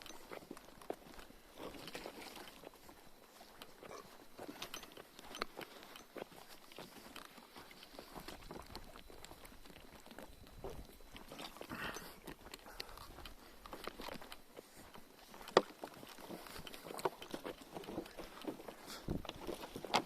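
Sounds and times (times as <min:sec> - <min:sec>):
crackles and small clicks: 0:00.0 - 0:20.0.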